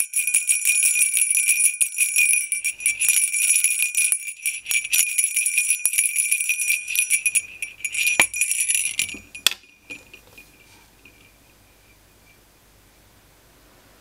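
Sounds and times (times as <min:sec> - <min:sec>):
jingle bells shaken: 0:00.0 - 0:12.0.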